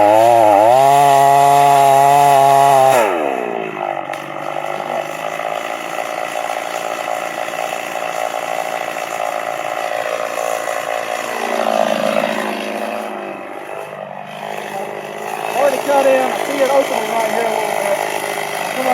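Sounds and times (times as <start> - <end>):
chainsaw cutting tree: 0.0 - 18.9.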